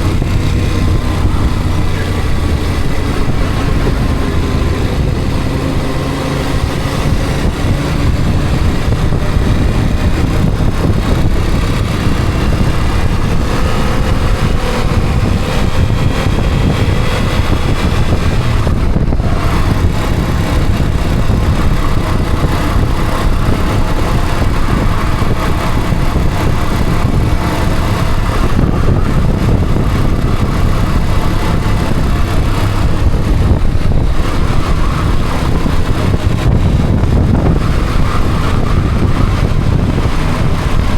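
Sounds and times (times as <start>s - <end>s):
road noise: 0.0s - 40.9s
vehicle engine: 0.0s - 40.9s.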